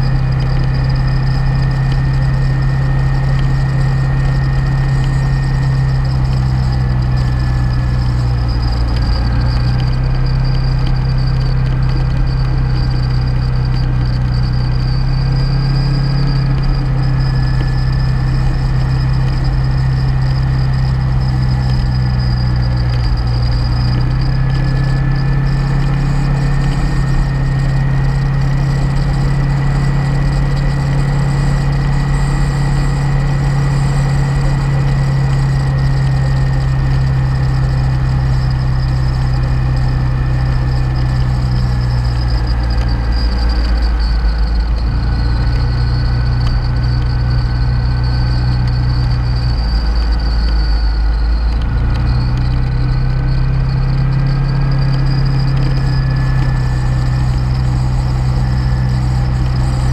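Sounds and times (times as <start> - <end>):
motorcycle engine cruising: 0.0 - 59.9
wind and road noise: 0.0 - 59.9.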